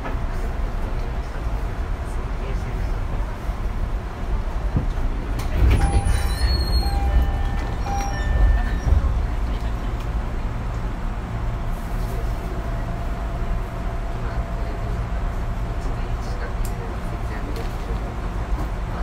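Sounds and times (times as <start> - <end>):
electric train rumble: 0.0 - 19.0.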